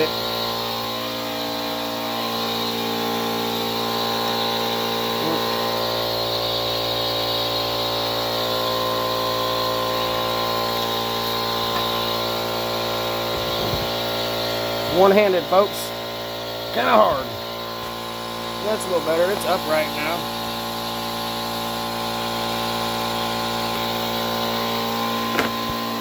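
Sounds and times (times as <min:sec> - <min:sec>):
air compressor running: 0:00.0 - 0:26.0.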